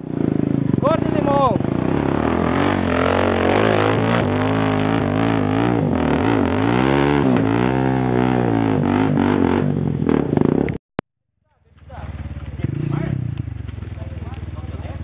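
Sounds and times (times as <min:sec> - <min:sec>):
dirt bike engine revving: 0:00.0 - 0:10.8, 0:11.7 - 0:15.0.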